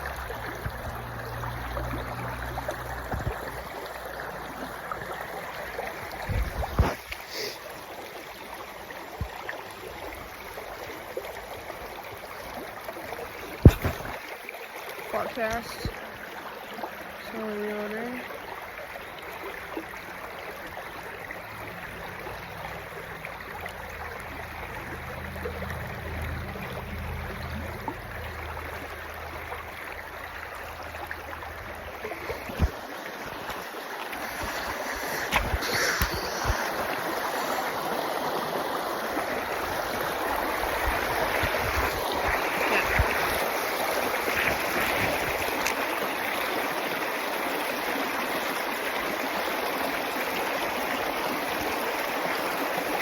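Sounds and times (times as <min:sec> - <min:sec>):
creek water over rocks: 0:00.0 - 0:53.0.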